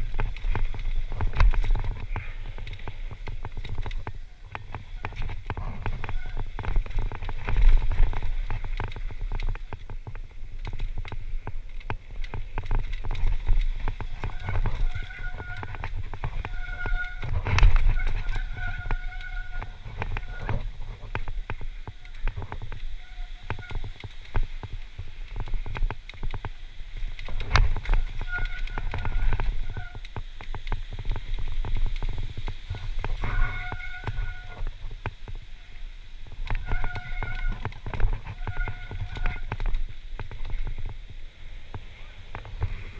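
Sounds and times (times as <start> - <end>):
bike clattering and rattling: 0.0 - 42.9
heavy bike jolt: 0.0 - 42.9
wind rumbling on microphone: 0.0 - 42.9.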